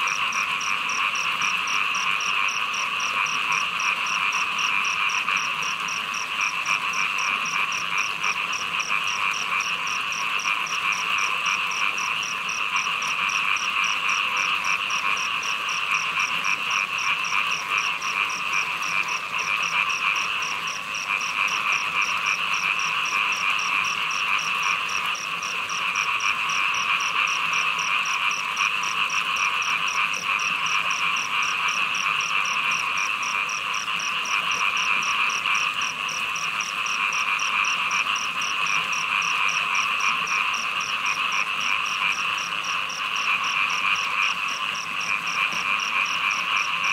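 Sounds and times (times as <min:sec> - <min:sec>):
chorus of small frogs: 0:00.0 - 0:46.9.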